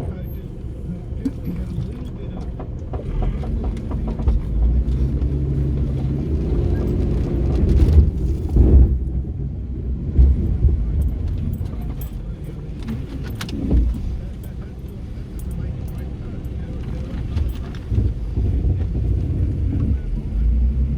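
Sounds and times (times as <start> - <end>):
engine low rumble: 0.0 - 20.9
light knocks and rattles: 0.1 - 9.2, 10.2 - 20.7.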